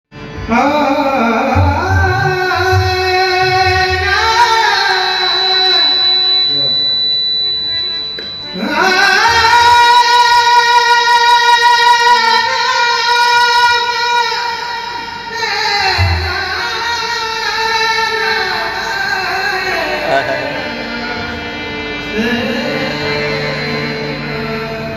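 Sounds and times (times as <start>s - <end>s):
man singing in high voice: 0.3s - 6.5s, 8.4s - 21.3s, 21.9s - 24.9s.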